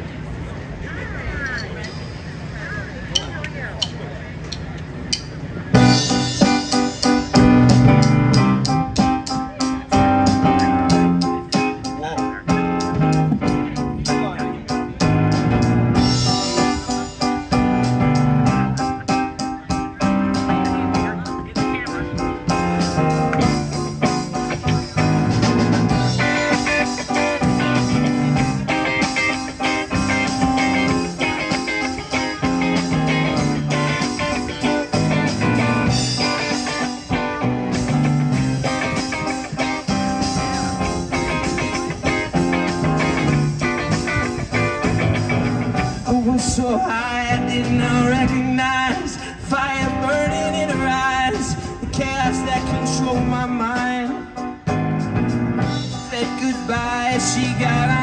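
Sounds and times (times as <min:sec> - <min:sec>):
live rock band: 0:05.2 - 0:58.0.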